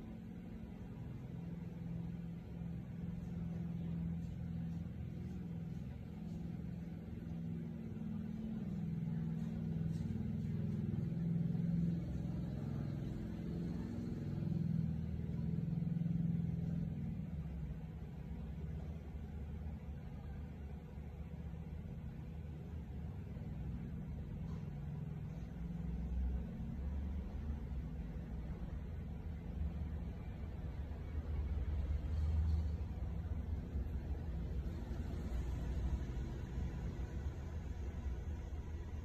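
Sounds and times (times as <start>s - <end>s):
low engine rumble: 0.0s - 39.0s.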